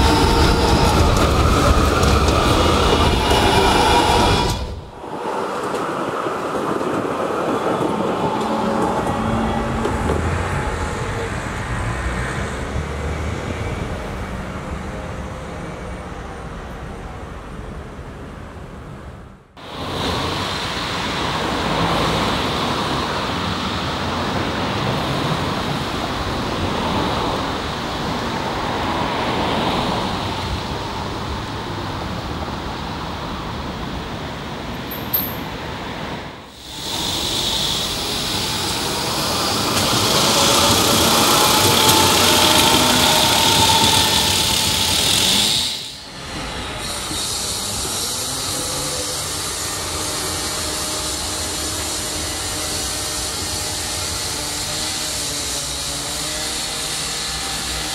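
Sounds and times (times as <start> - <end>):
distant trams: 0.0 - 57.9
street traffic: 0.0 - 57.9
tram running on rails: 0.0 - 57.9.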